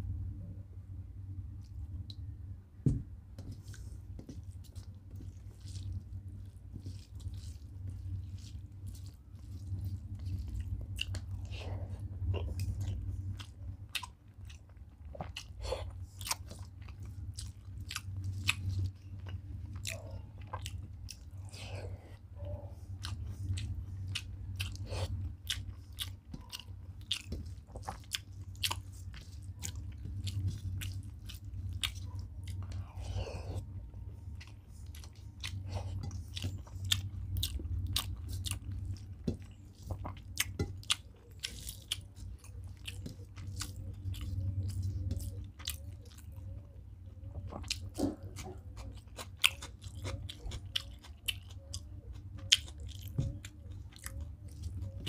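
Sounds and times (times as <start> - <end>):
steady low hum: 0.0 - 55.0
person chewing food: 3.4 - 55.0.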